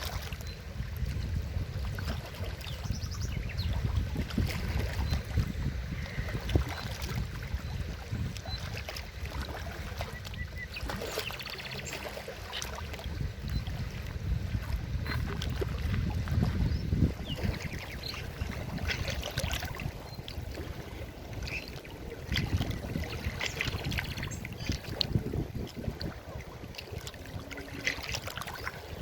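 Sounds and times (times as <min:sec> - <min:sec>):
river water rushing and splashing: 0:00.0 - 0:29.0.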